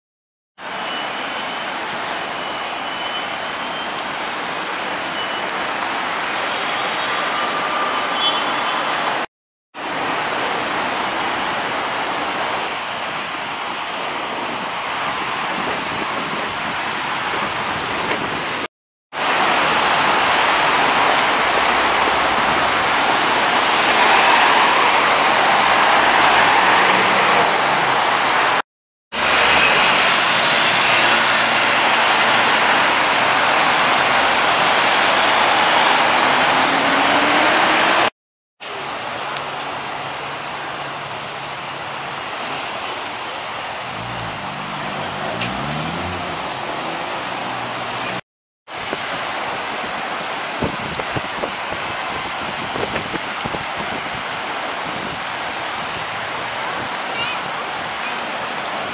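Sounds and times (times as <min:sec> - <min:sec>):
cars driving on wet street: 0:00.6 - 0:58.9.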